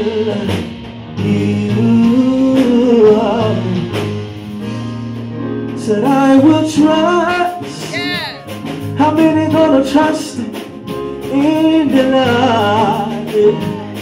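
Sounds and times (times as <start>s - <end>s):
man singing with vibrato: 0.0s - 3.9s, 5.8s - 14.0s
band accompaniment: 0.0s - 14.0s.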